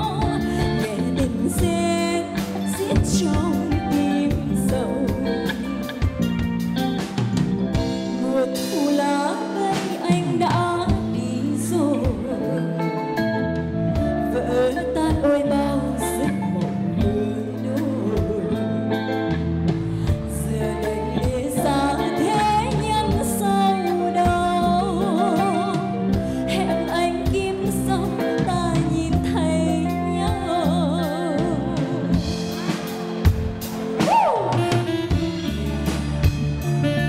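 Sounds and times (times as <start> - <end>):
woman singing pop ballad: 0.0 - 6.1, 8.0 - 32.9
live band playing: 0.0 - 37.0.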